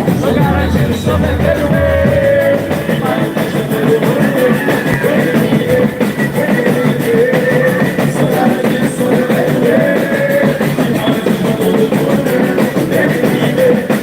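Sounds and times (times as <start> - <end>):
loud drumming: 0.0 - 14.0.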